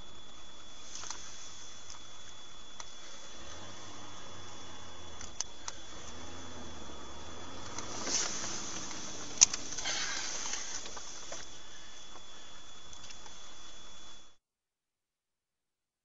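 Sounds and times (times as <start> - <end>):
cabin and road noise hiss: 0.0 - 14.4
faint high whine: 0.0 - 14.4.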